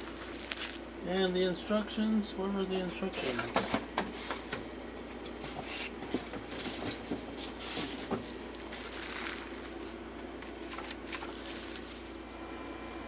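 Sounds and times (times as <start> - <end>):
packaging rustling and crinkling: 0.0 - 2.0, 2.7 - 12.4.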